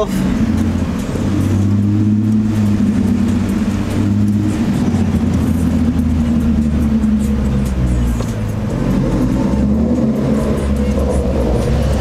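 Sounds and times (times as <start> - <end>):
car engine drone inside cabin: 0.0 - 12.0.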